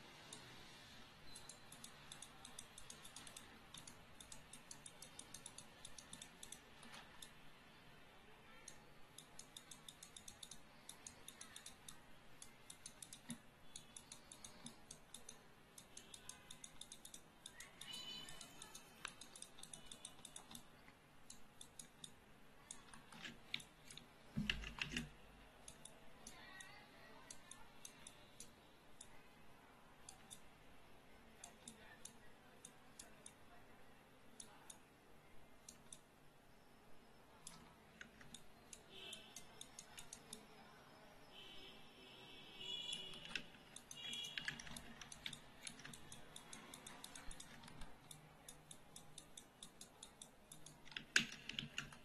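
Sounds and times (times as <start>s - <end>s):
mouse and keyboard clicking: 0.2s - 7.4s, 8.5s - 29.2s, 30.0s - 30.5s, 31.3s - 33.5s, 35.6s - 36.1s, 37.3s - 40.7s, 42.7s - 52.0s.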